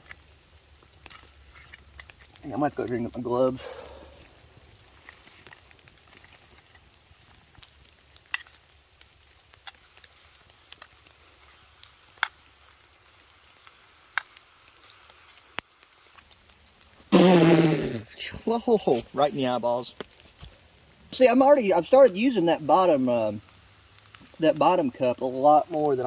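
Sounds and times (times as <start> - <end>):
campfire crackling and popping: 0.0 - 26.0
faint sizzle of food: 0.0 - 26.0.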